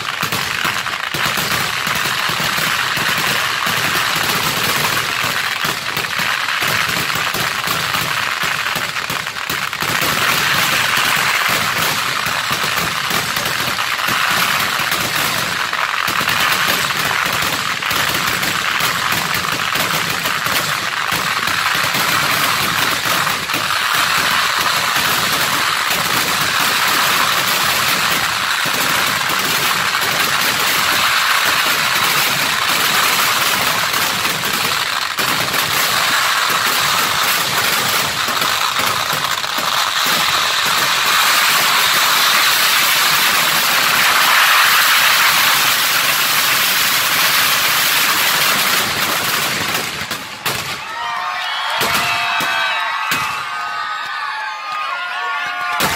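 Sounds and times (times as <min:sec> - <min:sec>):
continuous fireworks barrage: 0:00.0 - 0:55.9.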